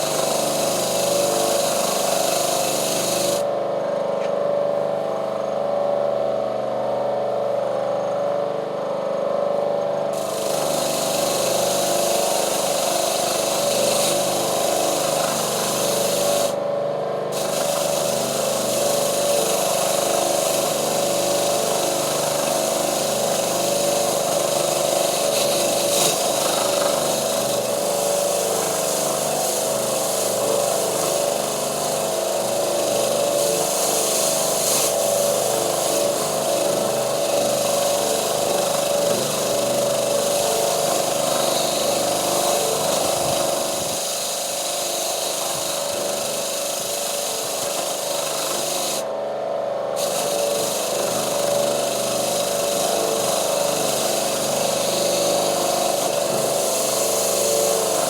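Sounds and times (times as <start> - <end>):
power tool whining and hissing: 0.0 - 3.6, 9.5 - 58.0.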